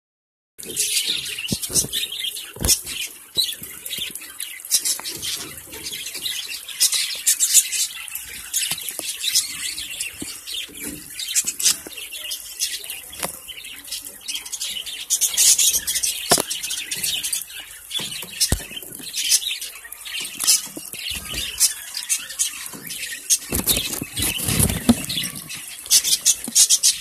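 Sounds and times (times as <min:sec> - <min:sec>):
birds chirping: 0:00.6 - 0:27.0
birds splashing in water: 0:00.6 - 0:27.0.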